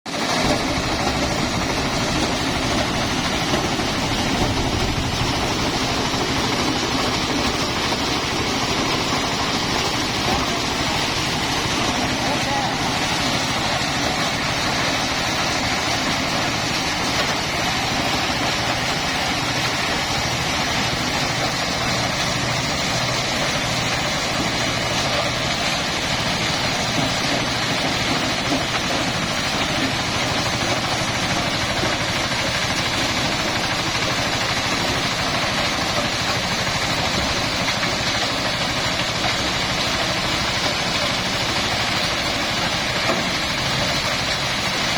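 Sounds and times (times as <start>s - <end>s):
threshing machine running: 0.1s - 44.9s.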